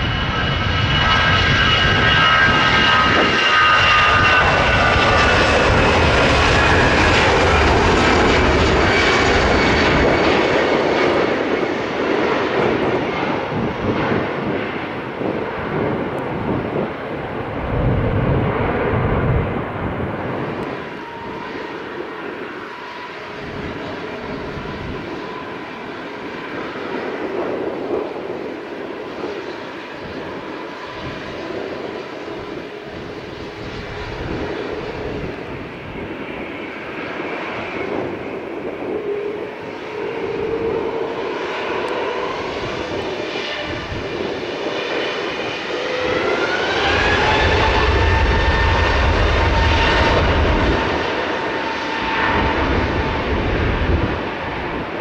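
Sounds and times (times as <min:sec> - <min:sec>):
jet engines spooling up: 0:00.0 - 0:55.0
jet engines whining: 0:00.0 - 0:55.0.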